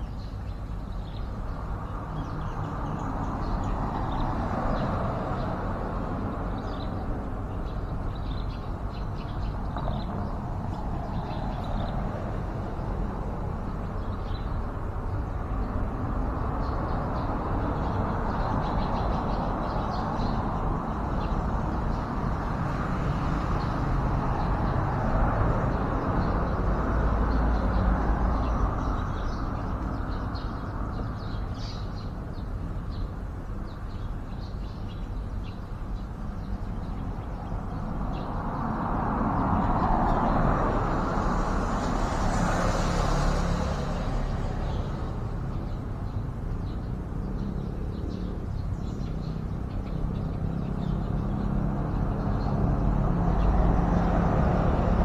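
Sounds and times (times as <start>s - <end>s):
road traffic rumble: 0.0s - 55.0s
vehicles passing: 0.5s - 55.0s.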